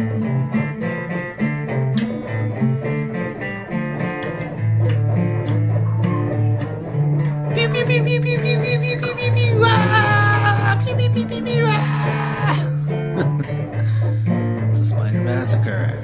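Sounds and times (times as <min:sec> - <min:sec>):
plucked guitar notes: 0:00.0 - 0:16.0.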